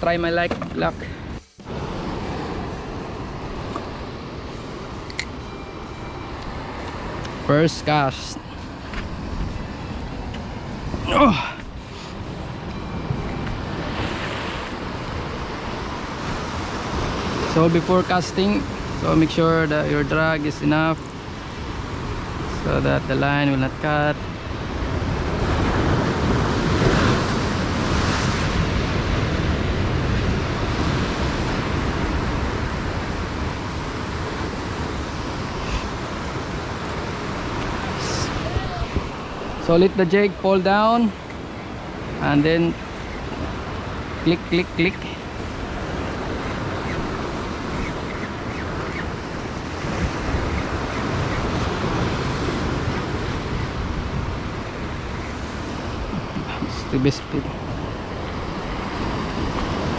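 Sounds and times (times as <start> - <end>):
wind buffeting microphone: 8.4 - 59.9.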